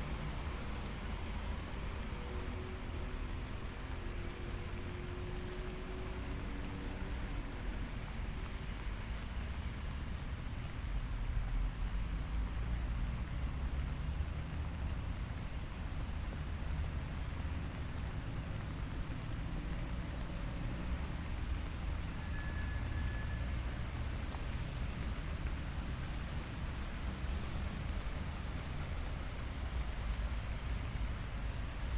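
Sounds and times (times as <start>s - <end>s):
light rain falling: 0.0s - 31.9s
road traffic rumble: 0.0s - 31.9s.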